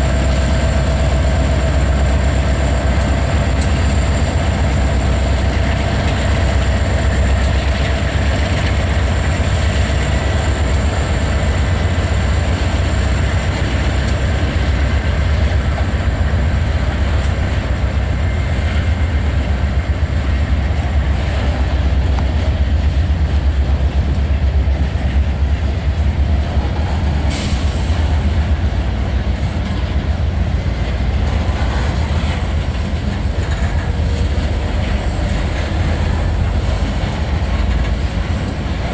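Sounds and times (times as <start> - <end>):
faint clickety-clack of rails: 0.0 - 38.9
freight train wheels rumbling: 0.0 - 38.9.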